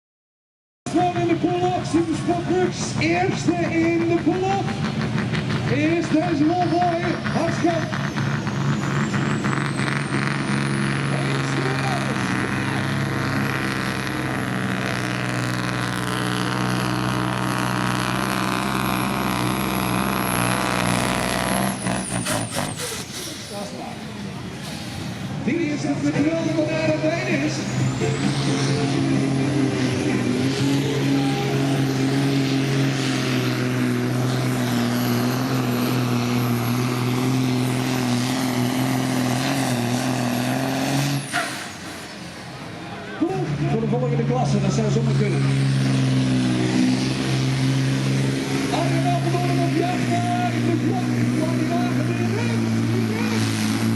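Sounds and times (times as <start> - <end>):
diesel engine running at high revs: 0.9 - 53.9.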